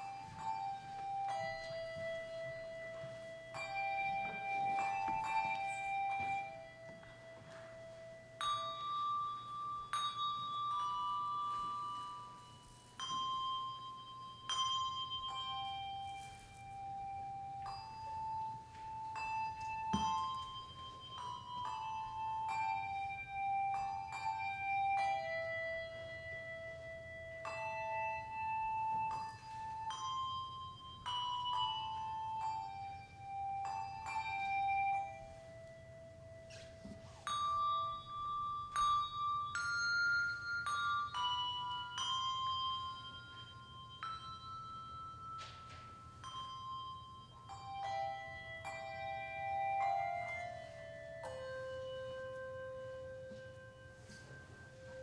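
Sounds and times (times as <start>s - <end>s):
handbell choir melody: 0.0s - 55.0s.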